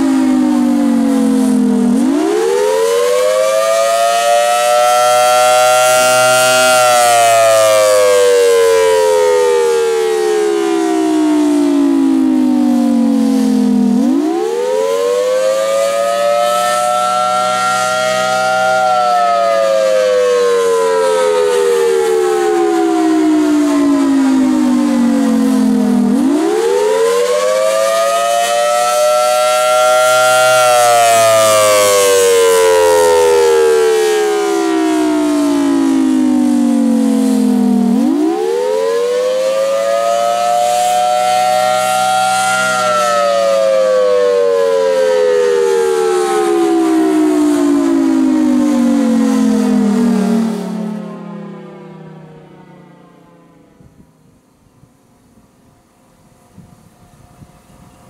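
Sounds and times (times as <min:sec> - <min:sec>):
civil defense siren wailing: 0:00.0 - 0:58.0.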